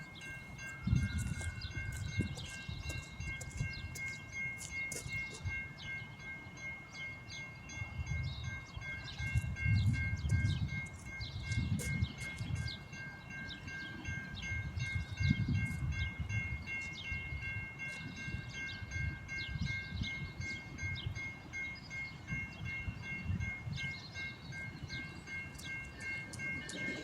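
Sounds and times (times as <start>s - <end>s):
wind buffeting microphone: 0.0s - 6.0s, 7.6s - 27.0s
birds chirping: 0.0s - 27.0s
level crossing bell ringing: 0.0s - 27.0s.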